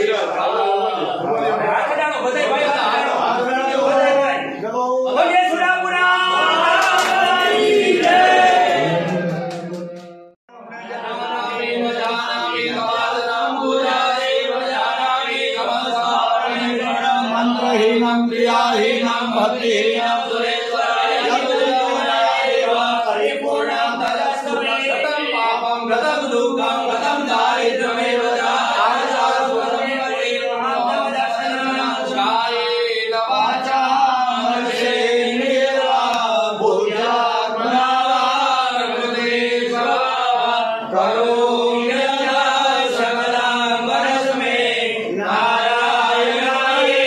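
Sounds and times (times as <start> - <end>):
voices chanting mantras: 0.0 - 47.0.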